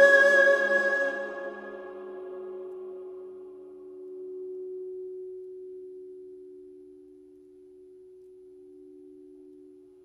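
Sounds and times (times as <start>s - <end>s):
lower tone: 0.0s - 10.0s
sustained pure tone: 0.0s - 10.0s.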